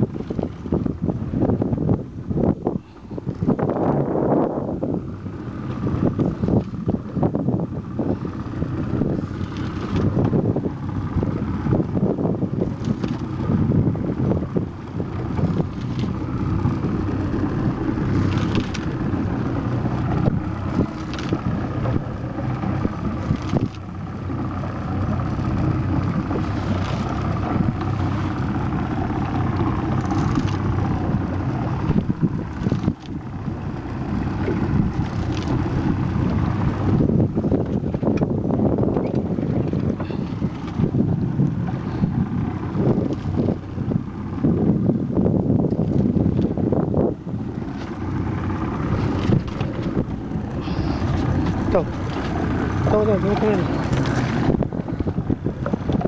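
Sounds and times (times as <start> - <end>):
boat engine running: 0.0 - 56.0
wind buffeting microphone: 0.0 - 56.0.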